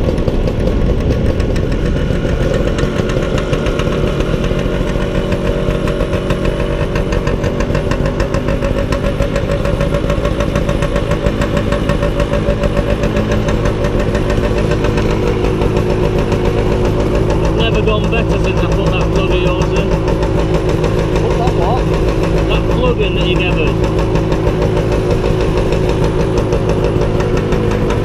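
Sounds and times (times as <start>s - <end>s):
motor scooter engine running: 0.0s - 28.0s.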